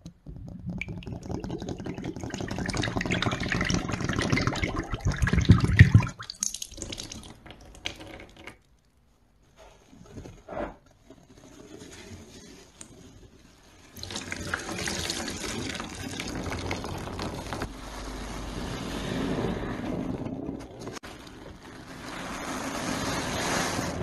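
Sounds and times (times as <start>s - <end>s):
liquid pouring and splashing: 0.2s - 8.7s, 12.9s - 24.0s.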